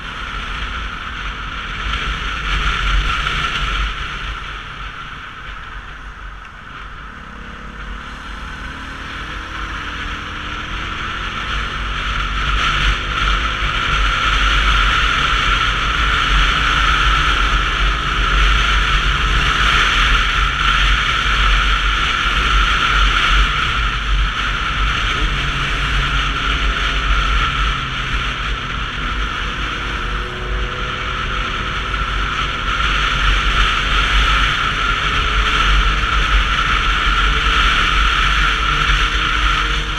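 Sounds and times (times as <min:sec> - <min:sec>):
motorcycle engine rising in pitch: 0:00.0 - 0:39.9
road noise: 0:00.0 - 0:39.9
wind rush: 0:00.0 - 0:39.9.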